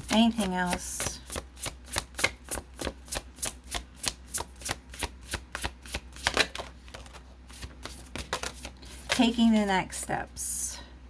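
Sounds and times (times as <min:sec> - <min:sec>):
cards being shuffled: 0:00.1 - 0:09.7.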